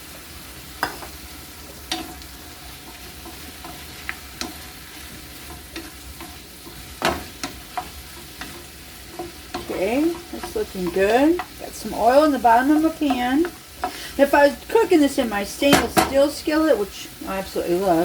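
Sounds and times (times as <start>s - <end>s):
onions frying with sizzle: 0.0s - 18.0s.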